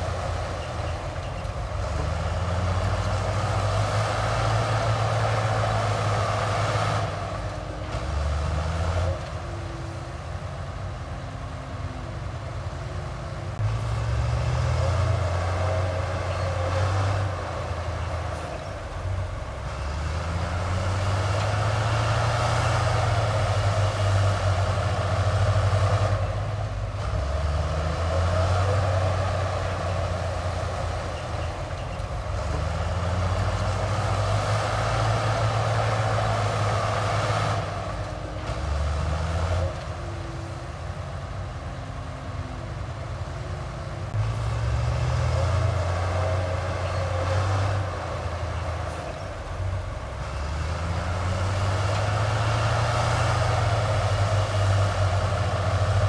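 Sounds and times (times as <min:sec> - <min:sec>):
heavy diesel engine surging: 0:00.0 - 0:56.0.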